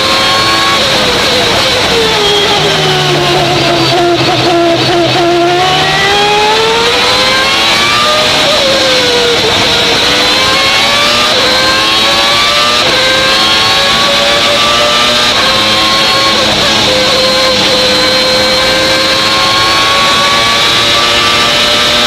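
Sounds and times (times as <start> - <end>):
racing car engine accelerating: 0.0 - 22.0.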